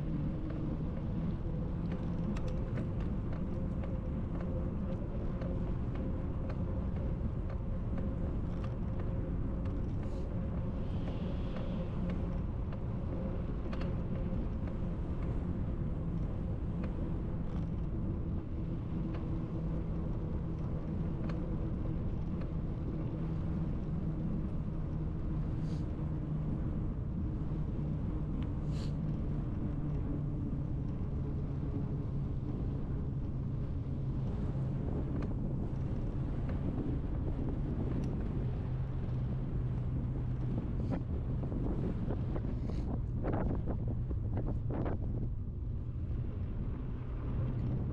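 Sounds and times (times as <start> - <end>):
faint steady hum: 0.0 - 47.9
wind buffeting microphone: 0.0 - 47.9.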